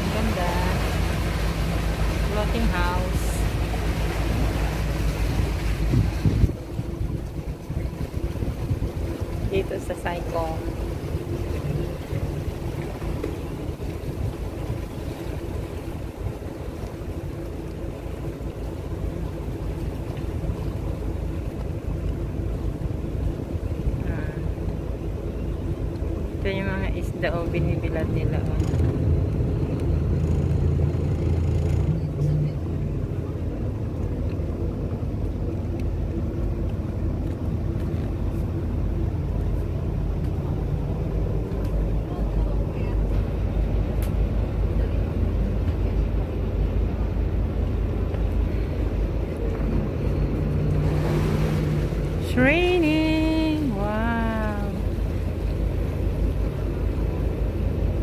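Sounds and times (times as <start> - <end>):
wind buffeting microphone: 0.0 - 53.5
boat engine rumbling: 0.0 - 58.0
water noise: 0.0 - 58.0.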